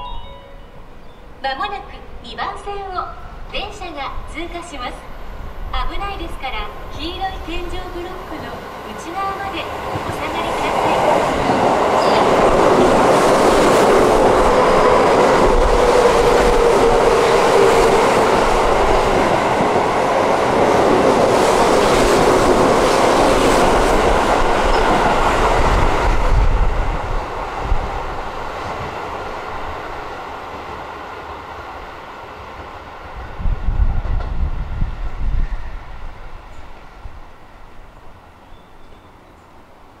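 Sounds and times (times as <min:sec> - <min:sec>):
electric train passing at speed: 0:00.0 - 0:40.0.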